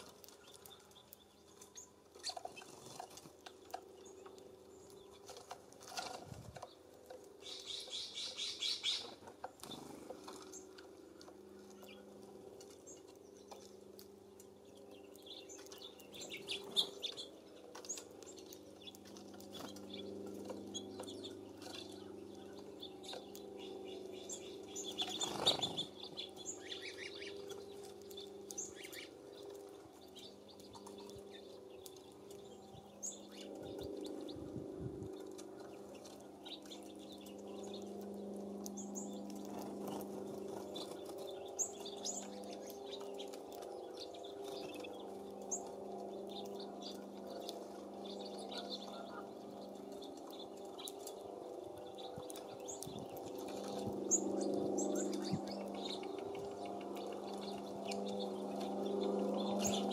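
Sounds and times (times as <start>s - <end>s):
songbirds chirping: 0.0s - 59.9s
bird trill: 7.4s - 10.9s, 14.5s - 34.5s, 35.1s - 59.9s.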